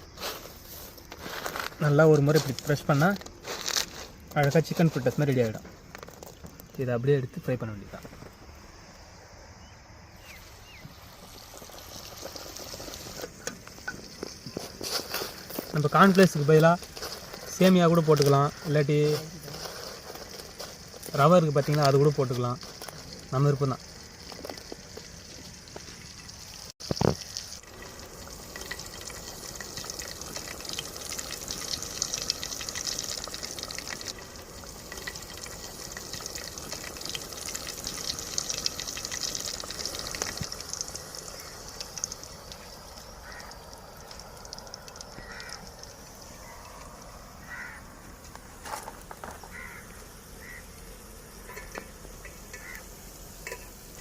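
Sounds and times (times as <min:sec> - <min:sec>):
chicken deep-frying in oil: 0:00.0 - 0:08.0, 0:10.1 - 0:54.0.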